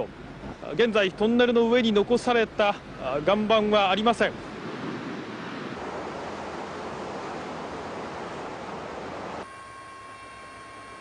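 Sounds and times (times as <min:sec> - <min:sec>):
steady tonal hum: 0:00.0 - 0:11.0
wind: 0:00.0 - 0:11.0.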